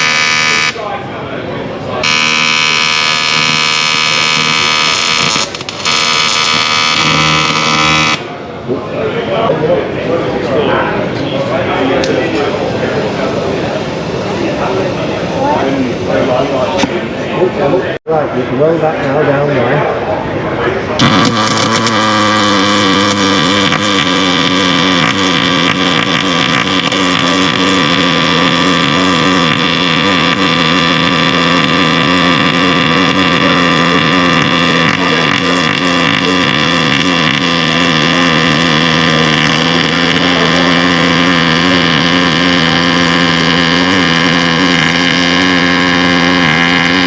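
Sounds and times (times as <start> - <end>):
welding arc buzzing: 0.0 - 0.9, 2.0 - 8.4, 12.0 - 17.0, 21.0 - 47.0.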